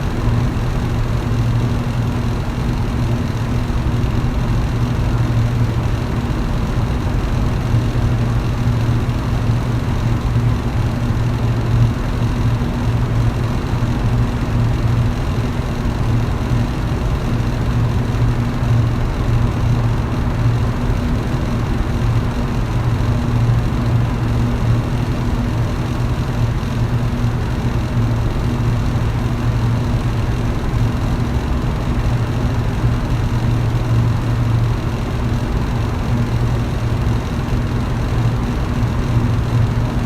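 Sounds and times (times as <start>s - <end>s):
electric fan running: 0.0s - 40.0s.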